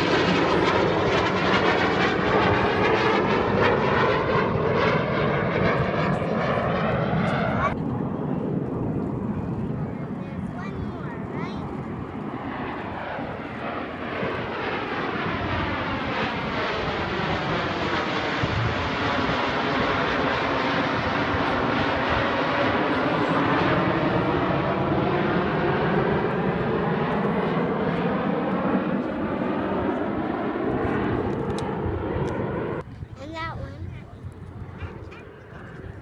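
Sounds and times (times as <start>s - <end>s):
jets roaring overhead: 0.0s - 36.0s.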